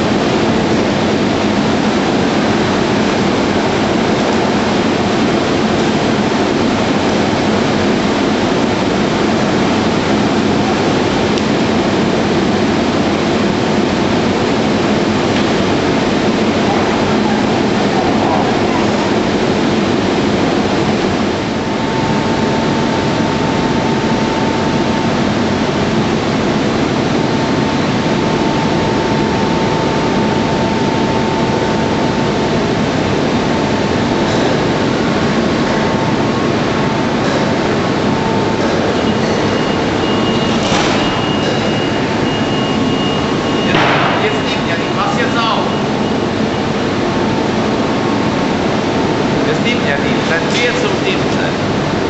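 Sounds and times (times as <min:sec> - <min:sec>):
faint steady whine: 0:00.0 - 0:52.0
industrial machinery noise: 0:00.0 - 0:52.0.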